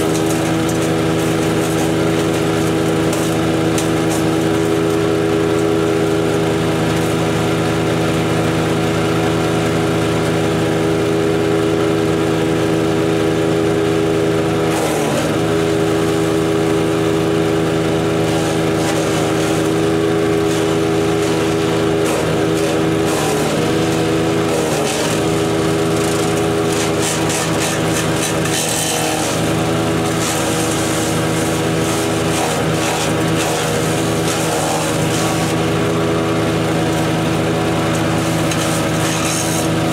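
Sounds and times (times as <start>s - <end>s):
wood crackling in chipper: 0.0s - 7.3s, 14.7s - 39.9s
wood chipper engine running: 0.0s - 39.9s.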